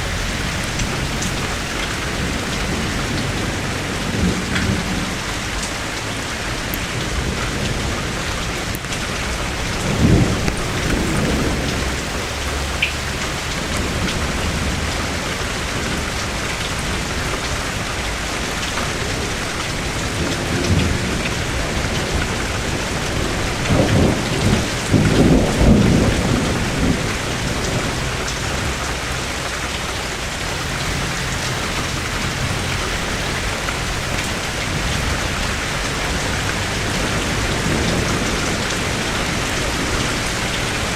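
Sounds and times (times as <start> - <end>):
thunder rumbling: 0.0 - 8.0, 9.0 - 16.2, 23.2 - 40.9
heavy rain on surfaces: 0.0 - 40.9.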